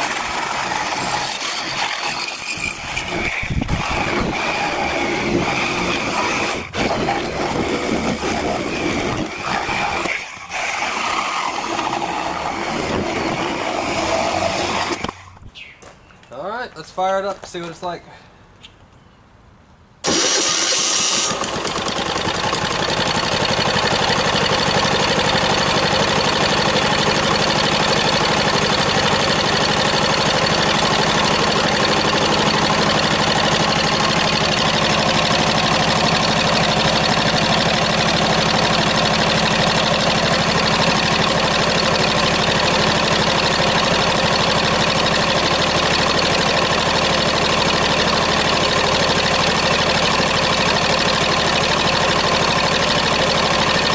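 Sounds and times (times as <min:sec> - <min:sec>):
diesel engine running loud: 0:00.0 - 0:15.2, 0:20.1 - 0:53.9.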